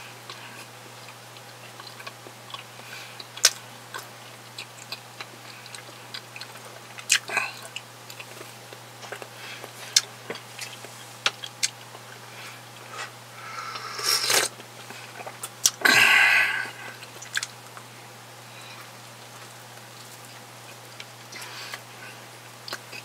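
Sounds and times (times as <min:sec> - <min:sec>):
man chewing food: 0:00.0 - 0:23.0.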